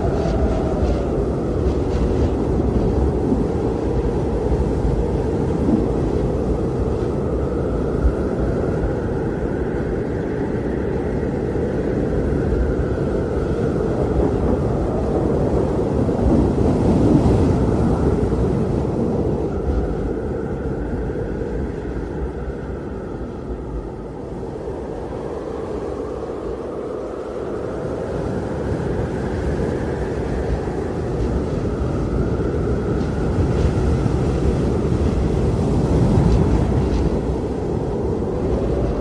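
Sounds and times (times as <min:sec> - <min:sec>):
blizzard wind rumbling: 0:00.0 - 0:39.0
high wind howl: 0:00.0 - 0:39.0.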